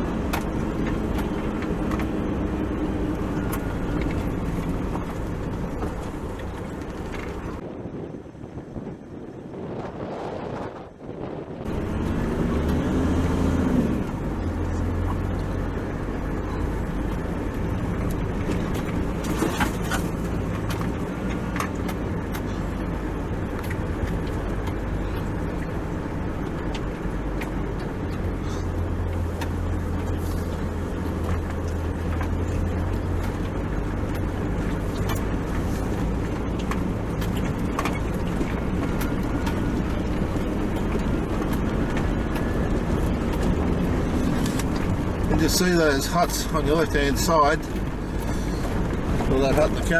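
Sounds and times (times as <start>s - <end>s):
vehicle engine drone: 0.0s - 49.9s.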